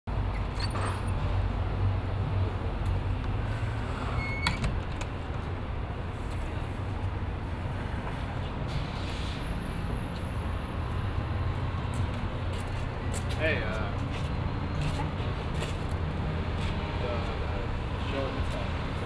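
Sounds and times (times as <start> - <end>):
city street traffic rumble: 0.1 - 19.0.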